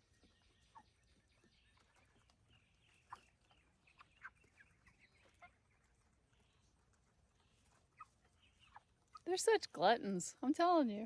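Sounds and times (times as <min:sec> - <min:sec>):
chickens chirping: 0:00.0 - 0:09.6.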